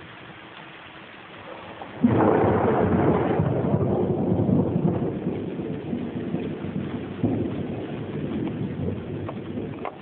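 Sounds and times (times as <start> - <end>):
thunder rumbling: 1.4 - 10.0.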